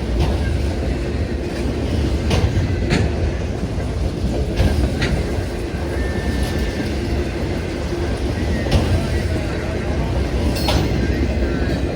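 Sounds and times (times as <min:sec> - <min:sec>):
freight train cars rumbling: 0:00.0 - 0:11.9
wheels clicking over rail joints: 0:00.0 - 0:11.9.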